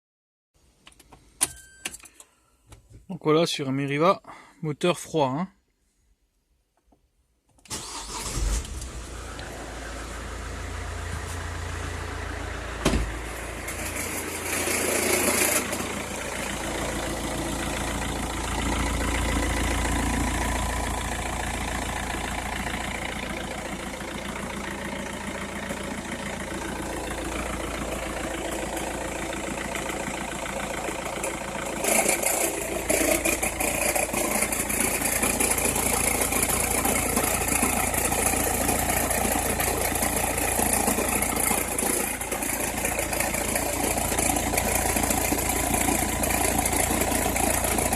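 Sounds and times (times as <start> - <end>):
car engine starting and idling: 7.5 - 47.9
engine crackling noise: 7.7 - 47.9.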